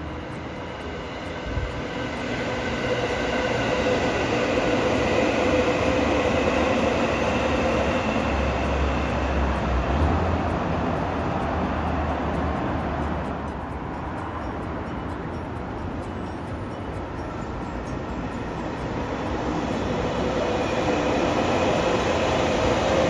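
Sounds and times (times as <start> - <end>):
train motor whine: 0.0 - 13.2, 17.4 - 23.0
electric train rumble: 0.0 - 23.0
wheels on rails: 0.0 - 23.0.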